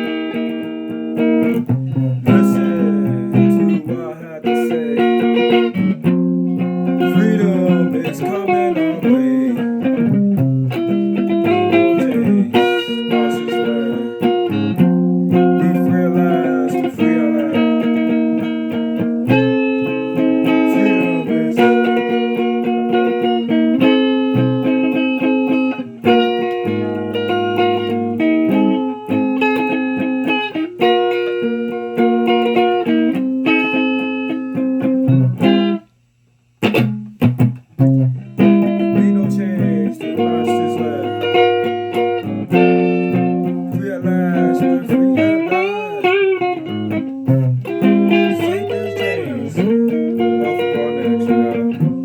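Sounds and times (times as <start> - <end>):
electric guitar playing: 0.0 - 52.0.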